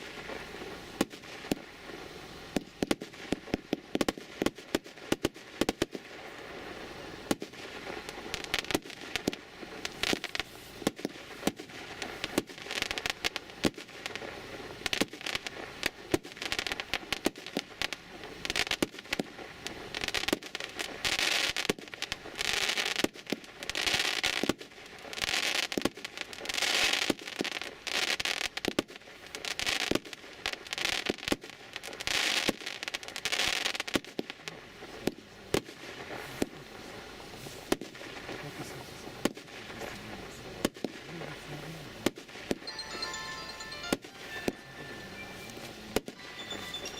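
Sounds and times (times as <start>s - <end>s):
firework shots: 0.0s - 42.8s
firework crackling bursts: 0.0s - 46.9s.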